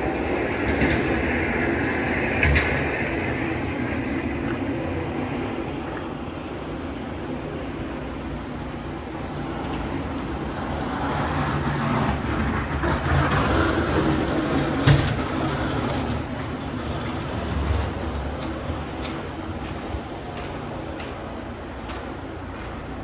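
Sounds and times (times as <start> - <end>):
heavy vehicle passing: 0.0 - 23.0
street traffic rumbling: 0.0 - 23.0.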